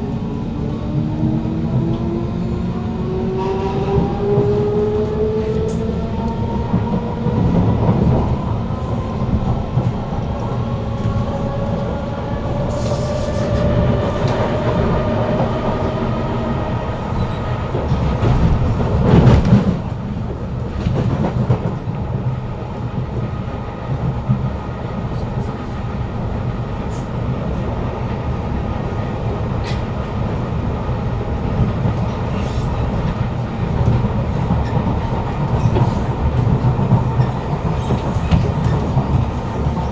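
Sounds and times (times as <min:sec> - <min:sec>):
wheel and track rumble: 0:00.0 - 0:39.9.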